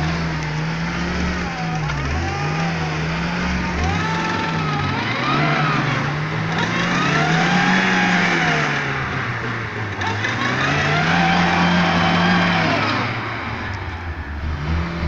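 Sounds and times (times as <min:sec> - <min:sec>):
car engine revving: 0:00.0 - 0:15.0
wheels spinning in mud: 0:00.0 - 0:15.0.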